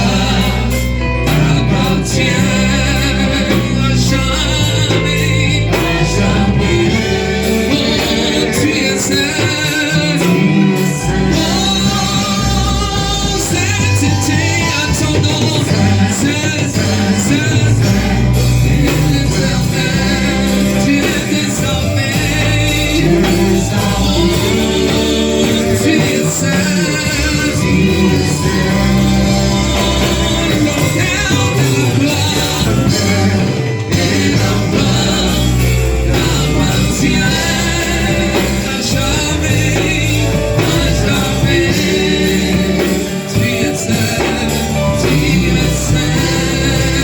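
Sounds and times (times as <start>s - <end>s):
gospel band with bass and guitar: 0.0s - 47.0s
singing: 0.0s - 47.0s.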